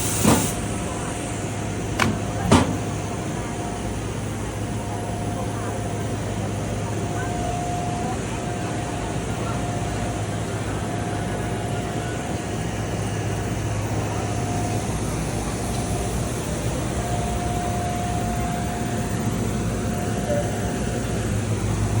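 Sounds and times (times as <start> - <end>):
fan noise: 0.0 - 22.0
printer machine hum: 0.0 - 22.0.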